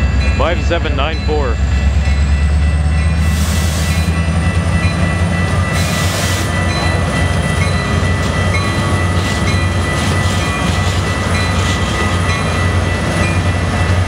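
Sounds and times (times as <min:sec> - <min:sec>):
diesel locomotive rumbling: 0:00.0 - 0:14.0.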